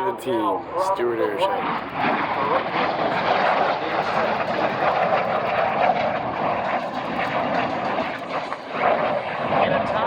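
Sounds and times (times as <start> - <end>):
jet engine running: 0.0 - 10.0.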